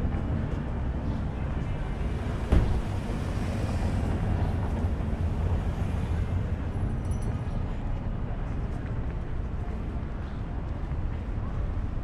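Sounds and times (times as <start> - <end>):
traffic rumble: 0.0 - 12.0
wind: 0.0 - 12.0.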